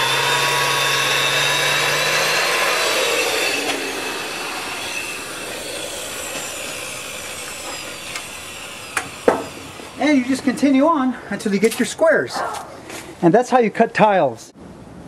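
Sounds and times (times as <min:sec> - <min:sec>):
power saw grinding concrete: 0:00.0 - 0:12.4.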